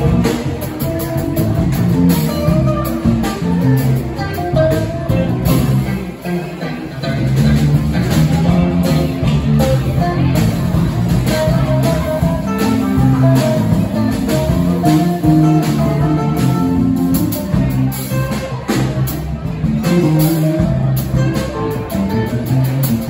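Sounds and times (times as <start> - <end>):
drum kit beat: 0.0 - 23.0
electric bass: 0.0 - 23.0
electric guitar: 0.0 - 23.0.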